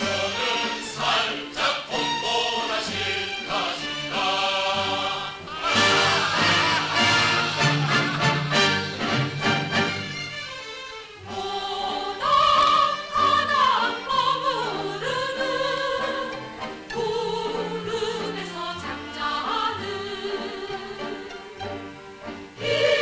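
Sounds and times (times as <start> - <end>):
orchestral accompaniment: 0.0 - 23.0.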